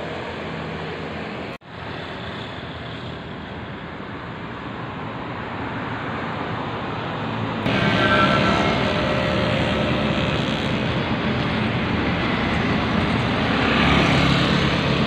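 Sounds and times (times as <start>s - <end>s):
outdoor rushing roar: 0.0s - 15.0s.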